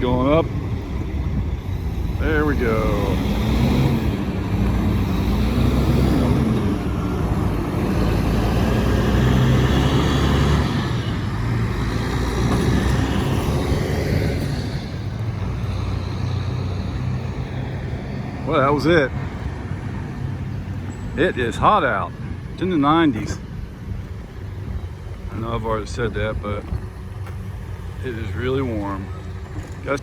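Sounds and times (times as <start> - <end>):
car and truck engines: 0.0 - 30.0.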